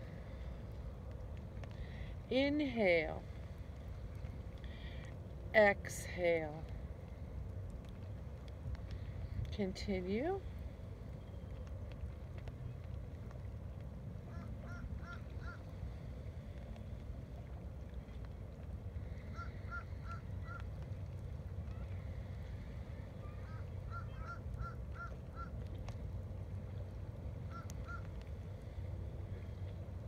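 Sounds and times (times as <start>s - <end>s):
low rumble of the shore: 0.0s - 30.0s.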